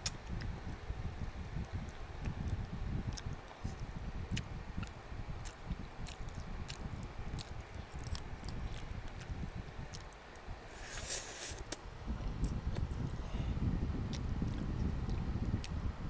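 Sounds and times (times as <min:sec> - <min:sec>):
chewing and wet mouth sounds: 0:00.0 - 0:11.8, 0:14.0 - 0:15.8.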